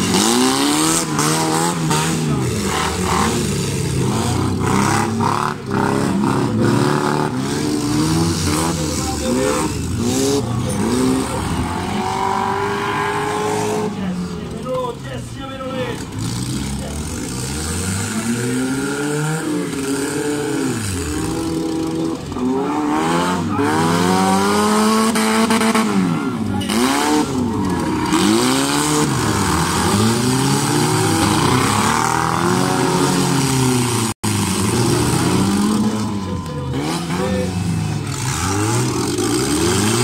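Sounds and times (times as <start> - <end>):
car engines revving: 0.0 - 40.0.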